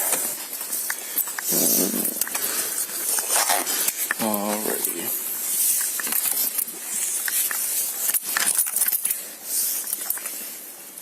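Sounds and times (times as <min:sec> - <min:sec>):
small metal items jingling: 0:00.0 - 0:10.6
hissy rustle: 0:00.0 - 0:11.0.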